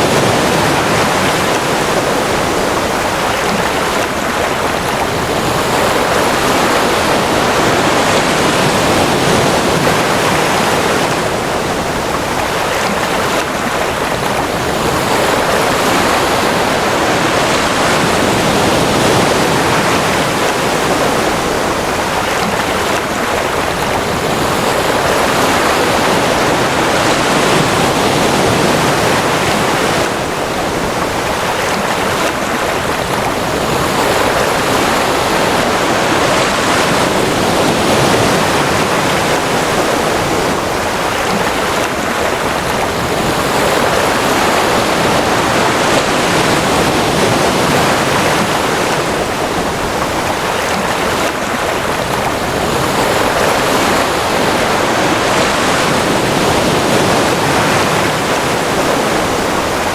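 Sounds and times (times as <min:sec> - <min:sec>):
ocean surf rushing: 0:00.0 - 0:59.9.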